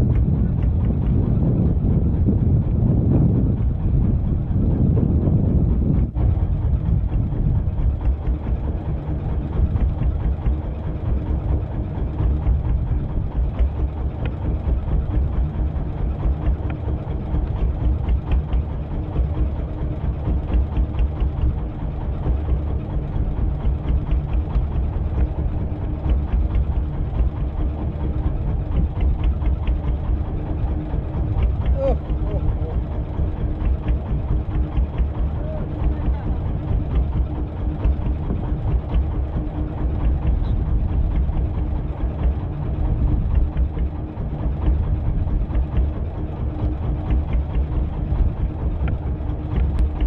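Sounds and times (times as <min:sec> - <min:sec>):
boat engine idling: 0:00.0 - 0:50.0.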